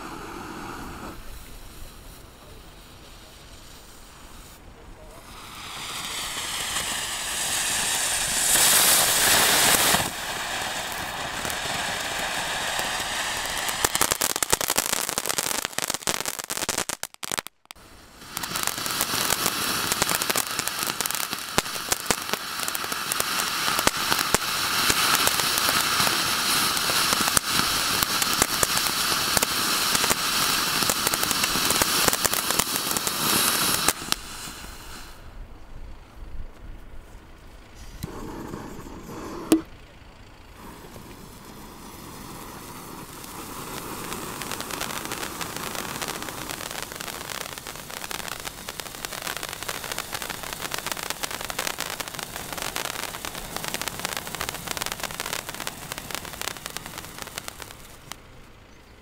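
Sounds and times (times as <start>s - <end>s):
firework fountains hissing: 0.0s - 35.5s, 37.6s - 58.4s
firework crackles: 0.0s - 36.6s, 37.4s - 59.0s.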